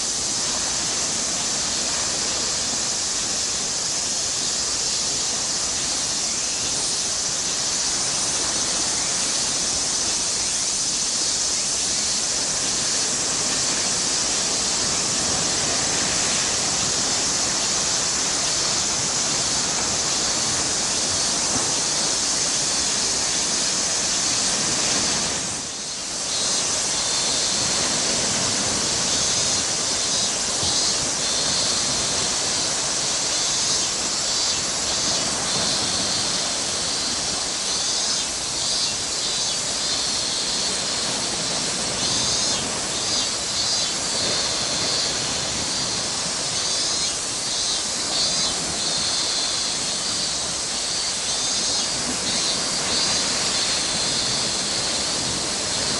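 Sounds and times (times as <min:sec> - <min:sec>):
rushing outdoor noise with hiss: 0:00.0 - 0:55.9.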